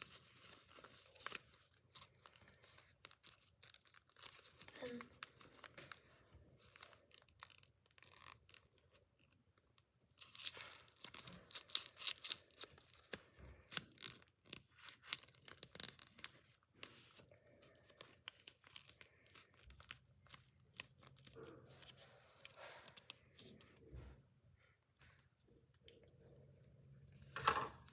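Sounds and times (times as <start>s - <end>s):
paper crinkling and crackling: 0.0s - 24.2s.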